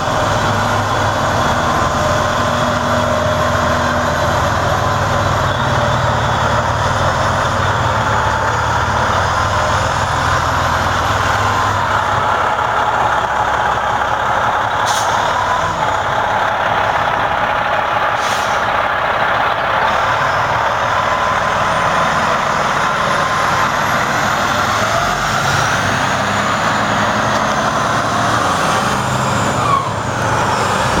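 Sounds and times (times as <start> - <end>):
truck diesel engine drone: 0.0 - 31.0.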